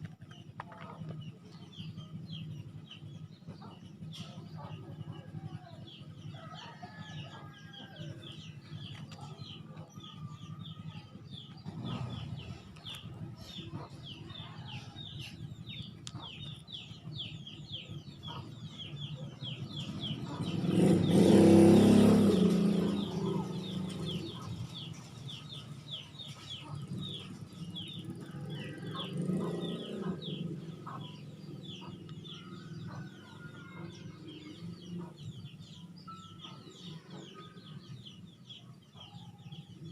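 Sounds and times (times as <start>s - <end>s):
small bird chirping: 0.1s - 39.9s.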